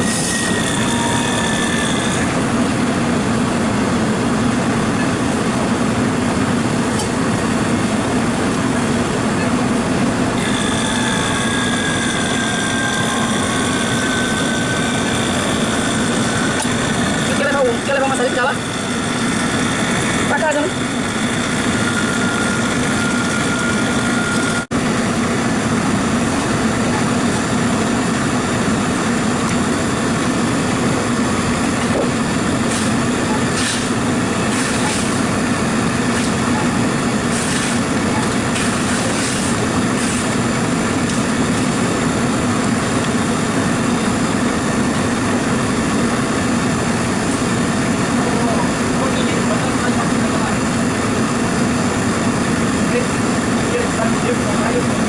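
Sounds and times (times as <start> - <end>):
mechanical running noise: 0.0 - 3.0, 10.3 - 55.0.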